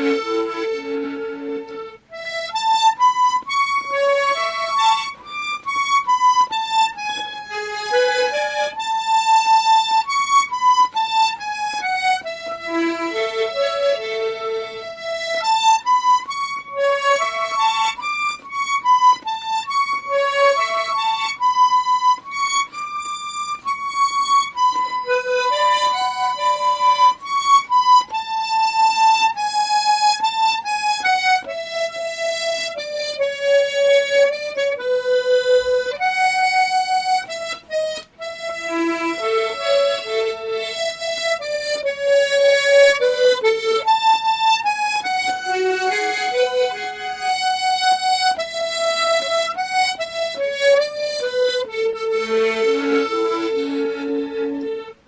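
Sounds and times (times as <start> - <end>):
harmonica playing slow melody: 0.0 - 55.0.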